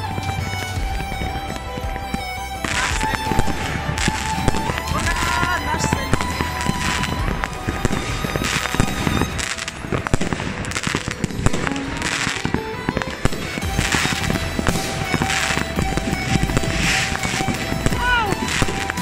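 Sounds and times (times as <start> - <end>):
fireworks bangs and pops: 0.0 - 19.0
fireworks crackling: 0.0 - 19.0.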